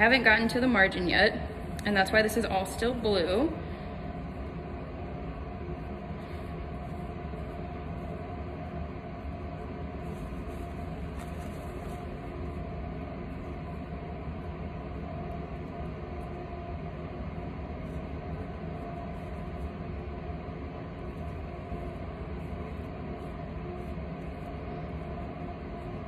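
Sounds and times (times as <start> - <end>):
faint hum: 0.0 - 26.0
steady mechanical drone: 0.0 - 26.0.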